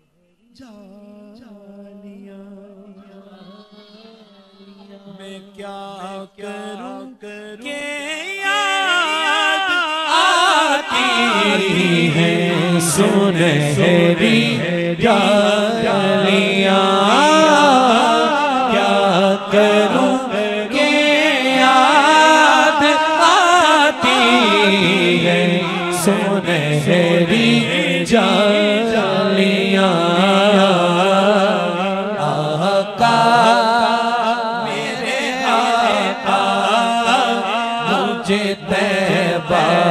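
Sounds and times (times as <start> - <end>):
man singing into a microphone: 0.0 - 39.9.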